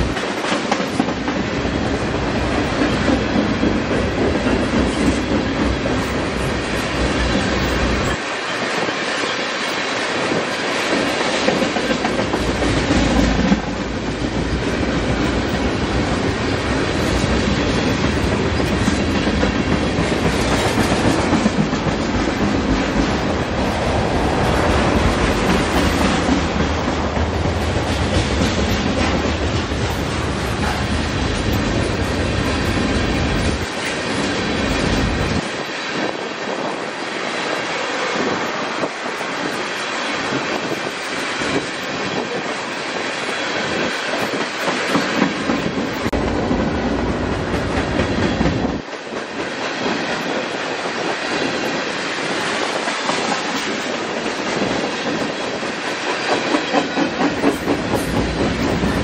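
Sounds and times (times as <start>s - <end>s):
train wheels clattering over rail joints: 0.0s - 36.8s, 37.8s - 59.0s.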